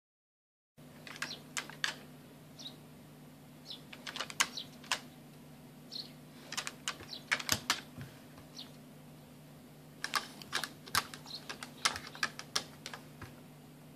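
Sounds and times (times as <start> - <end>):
steady low hum: 0.8 - 13.9.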